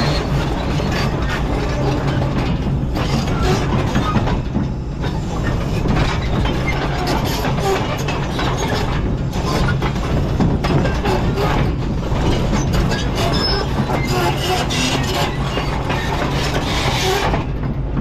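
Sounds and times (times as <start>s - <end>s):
excavator engine droning: 0.0s - 18.0s.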